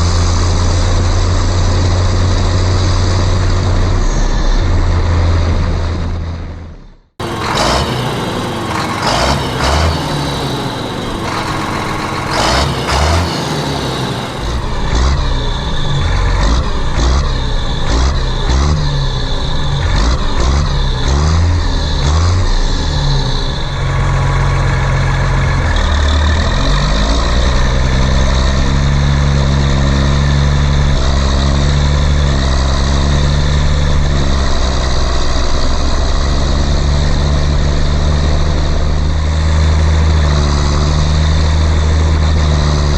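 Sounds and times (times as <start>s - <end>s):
heavy vehicle engine revving: 0.0s - 42.9s.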